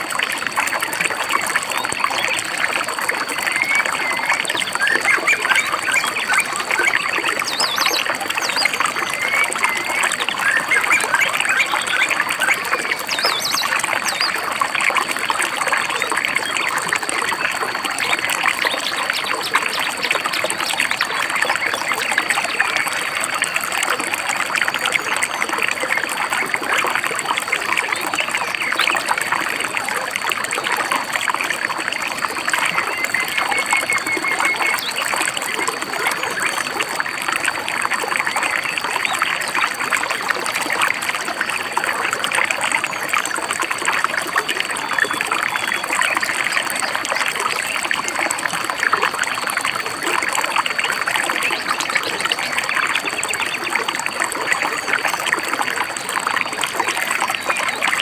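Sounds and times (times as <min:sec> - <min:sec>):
shallow river babbling: 0:00.0 - 0:58.0.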